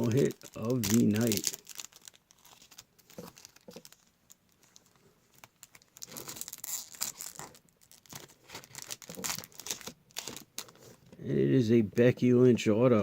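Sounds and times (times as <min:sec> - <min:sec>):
packaging tearing: 0:00.0 - 0:11.0
plastic packaging crinkling: 0:00.0 - 0:11.2.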